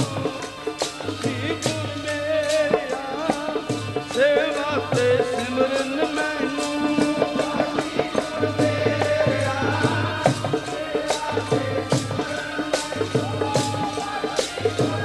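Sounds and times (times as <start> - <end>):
harmonium melody: 0.0 - 13.2
tabla hand-drum strokes: 0.0 - 15.0.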